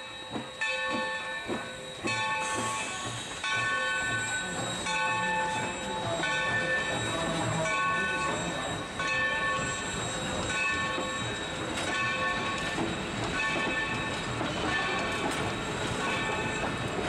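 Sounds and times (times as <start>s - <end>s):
bell ringing: 0.0s - 16.9s
train coaches rolling over rails: 0.0s - 17.0s.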